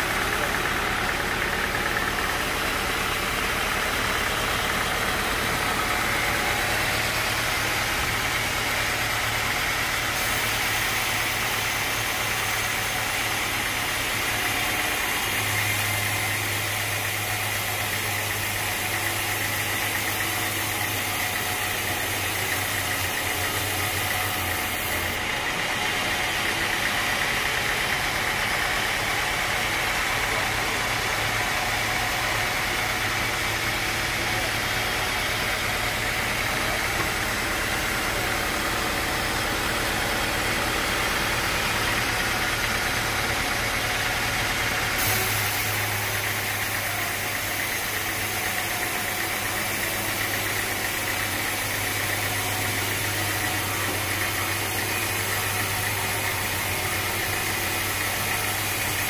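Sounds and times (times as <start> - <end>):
sawmill machinery hum: 0.0 - 59.0.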